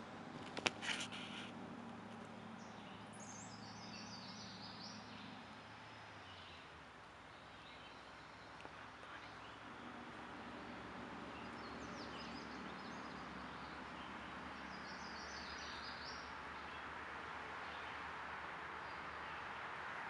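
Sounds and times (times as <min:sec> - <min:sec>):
outdoor background hiss: 0:00.0 - 0:20.0
songbird chirps: 0:00.0 - 0:20.0.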